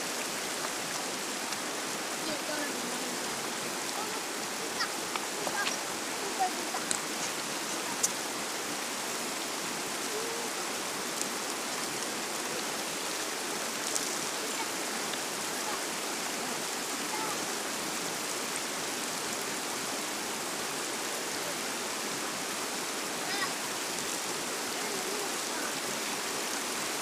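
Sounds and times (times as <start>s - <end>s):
river flowing over stones: 0.0s - 27.0s.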